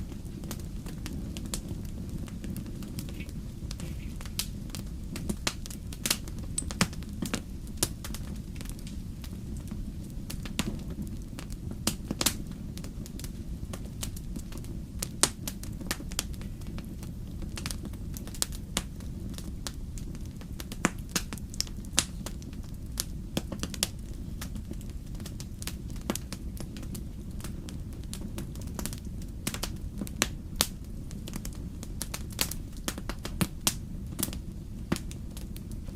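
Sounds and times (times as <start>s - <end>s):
burning logs crackling and popping: 0.0s - 35.9s
fireplace flames rumbling: 0.0s - 35.9s.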